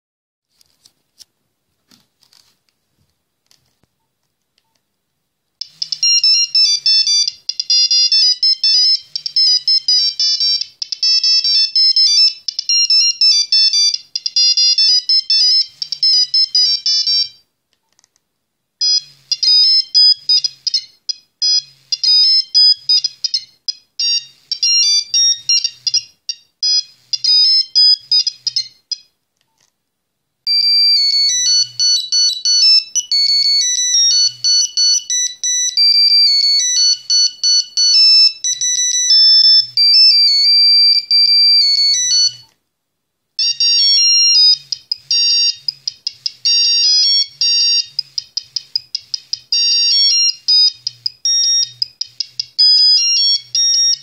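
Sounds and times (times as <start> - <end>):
mobile phone ringtone beeps: 5.6 - 17.4, 18.8 - 29.1, 30.5 - 42.5, 43.4 - 54.0.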